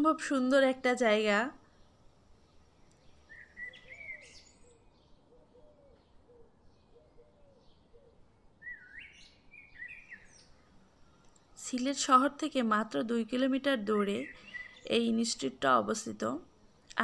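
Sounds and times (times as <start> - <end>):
birds singing: 1.6 - 12.7, 13.5 - 17.0.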